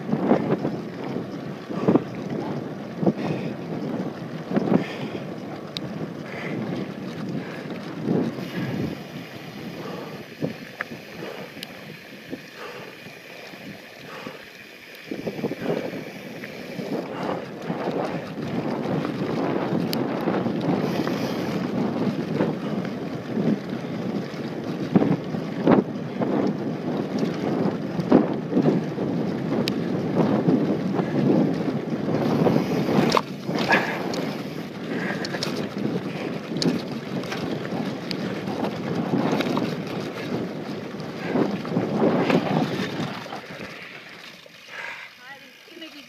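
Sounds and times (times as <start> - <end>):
bike rattling over bumps: 0.0 - 46.0
bike tyres rolling on gravel: 0.0 - 46.0
wind buffeting microphone: 0.0 - 46.0.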